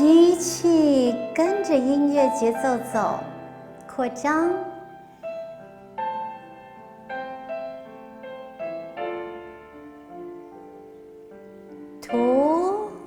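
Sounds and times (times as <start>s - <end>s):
slow piano notes: 0.0s - 13.0s.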